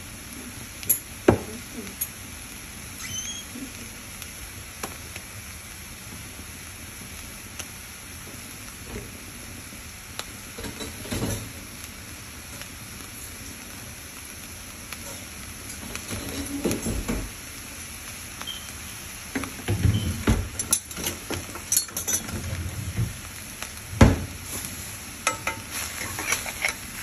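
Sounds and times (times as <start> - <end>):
meat and garlic sizzling in a pan: 0.0 - 27.0.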